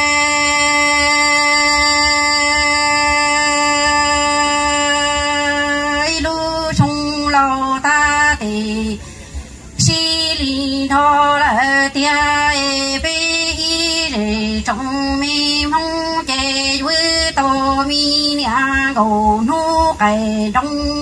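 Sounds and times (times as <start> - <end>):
woman singing into microphone: 0.0 - 9.1, 9.7 - 21.0.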